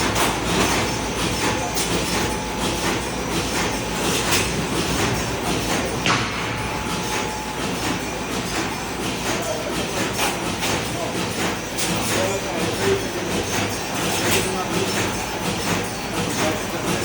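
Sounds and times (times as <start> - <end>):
machine clattering: 0.0 - 17.0.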